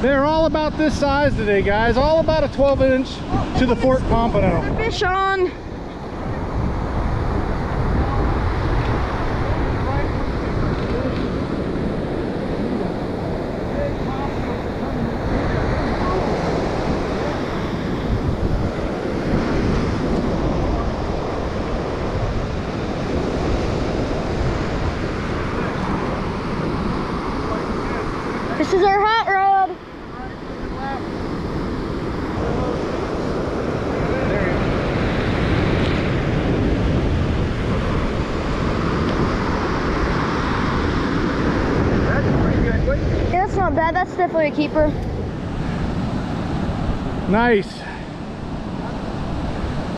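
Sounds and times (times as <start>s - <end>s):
ocean surf on sandy beach: 0.0s - 49.9s
wind buffeting microphone: 0.0s - 49.9s.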